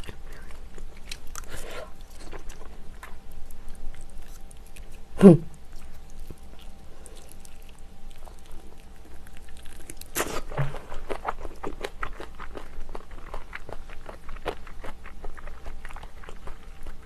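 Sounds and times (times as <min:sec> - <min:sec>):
wet chewing mouth sounds: 0:00.0 - 0:17.0.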